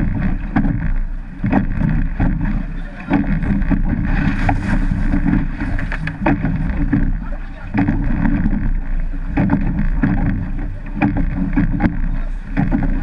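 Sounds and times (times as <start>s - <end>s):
rushing water: 0.0s - 13.0s
slaps and knocks on hull: 0.0s - 13.0s
wave splashing over boat: 0.0s - 13.0s
wind buffeting microphone: 0.0s - 13.0s.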